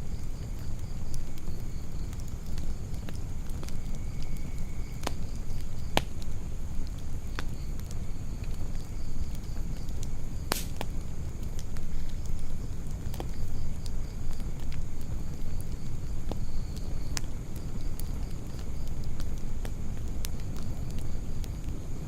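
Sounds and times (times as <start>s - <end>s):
campfire crackling and popping: 0.0s - 22.0s
loud snap of fire: 0.0s - 22.0s.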